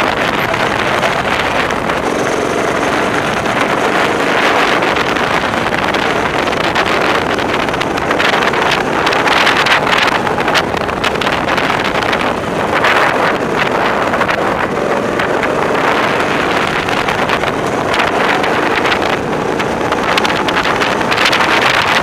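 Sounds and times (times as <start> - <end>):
go-kart engine running: 0.0 - 22.0
wind buffeting microphone: 0.0 - 22.0.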